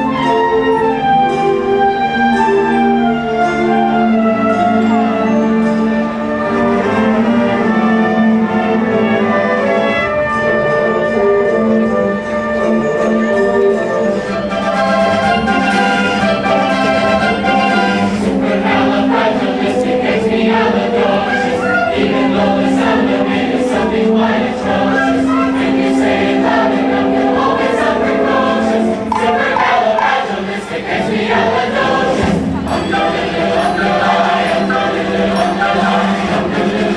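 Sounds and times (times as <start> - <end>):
choir singing: 0.0 - 36.9
instrumental accompaniment: 0.0 - 36.9.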